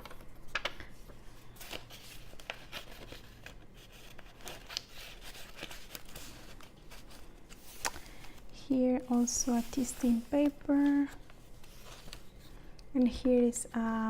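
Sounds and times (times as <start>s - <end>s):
paper pages rustling and crinkling: 0.0s - 14.0s.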